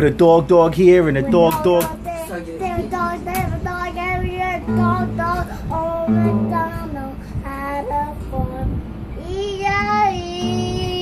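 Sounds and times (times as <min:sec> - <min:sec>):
low steady notes: 0:00.0 - 0:11.0
girl singing: 0:01.2 - 0:11.0.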